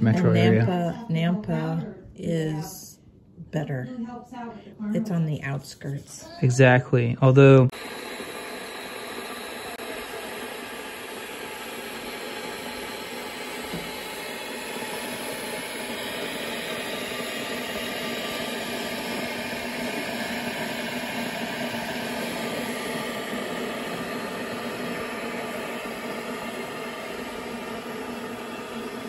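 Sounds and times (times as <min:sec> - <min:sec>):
electric kettle hissing: 0:00.0 - 0:02.8, 0:07.7 - 0:29.0.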